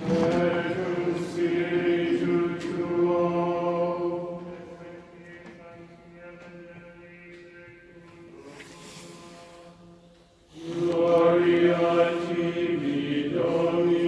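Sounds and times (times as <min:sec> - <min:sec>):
choir chanting in harmony: 0:00.0 - 0:14.0.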